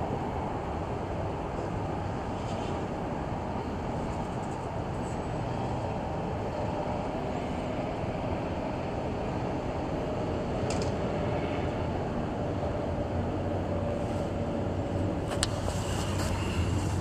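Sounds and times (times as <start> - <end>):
background rumble and hum: 0.0 - 17.0.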